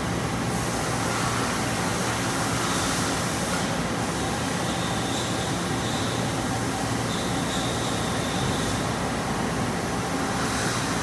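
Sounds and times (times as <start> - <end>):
lathe cutting hiss and hum: 0.0 - 11.0.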